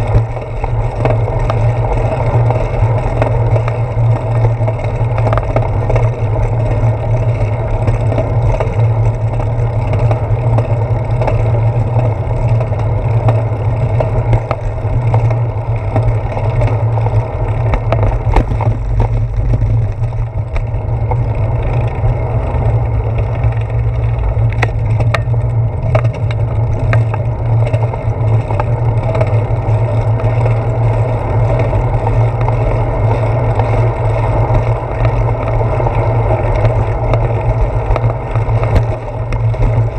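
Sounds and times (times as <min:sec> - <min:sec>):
bicycle rolling on pavement: 0:00.0 - 0:39.9
faint clicks from bumps: 0:00.0 - 0:39.9
wind rush on microphone: 0:00.0 - 0:39.9.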